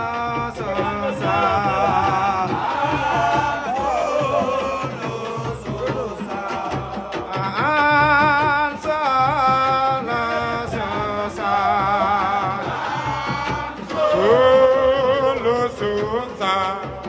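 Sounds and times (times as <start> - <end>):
man chanting through loudspeakers: 0.0 - 6.8, 7.4 - 12.6, 13.8 - 17.0
background music: 0.0 - 17.0.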